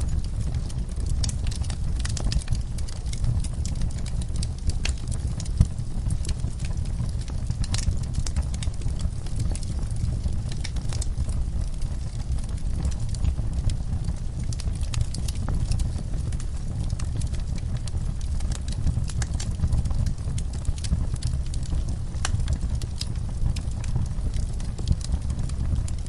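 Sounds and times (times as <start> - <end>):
steady low rumble: 0.0 - 26.0
wood fire crackling and popping: 0.0 - 26.0.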